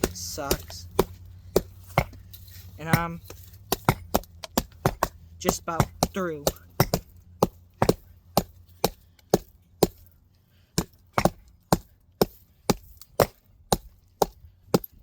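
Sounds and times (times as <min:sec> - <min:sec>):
axe chopping wooden log: 0:00.0 - 0:10.1, 0:10.7 - 0:15.0.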